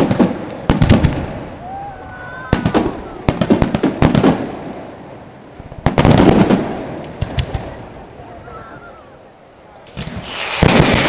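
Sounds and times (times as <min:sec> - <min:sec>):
fireworks bangs and crackles: 0:00.0 - 0:08.9, 0:09.8 - 0:11.0.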